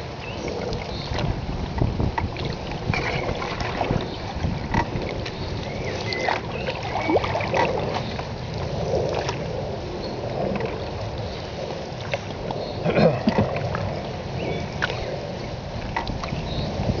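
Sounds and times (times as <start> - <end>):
paddle strokes splashing: 0.0 - 17.0
water gurgling along hull: 0.0 - 17.0
wind rumble on microphone: 0.0 - 17.0.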